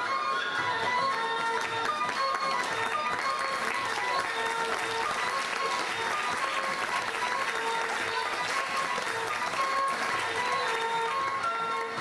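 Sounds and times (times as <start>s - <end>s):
audience clapping: 0.0s - 12.0s
folk dance music: 0.0s - 12.0s.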